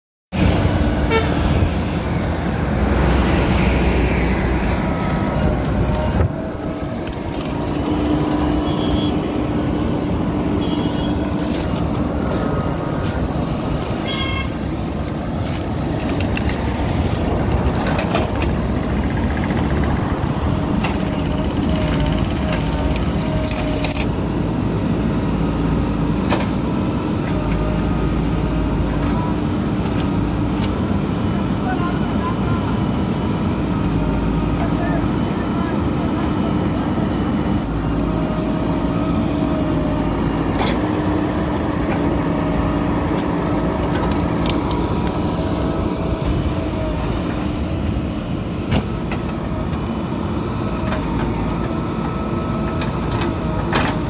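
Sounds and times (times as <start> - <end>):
diesel engine running: 0.3 - 54.0.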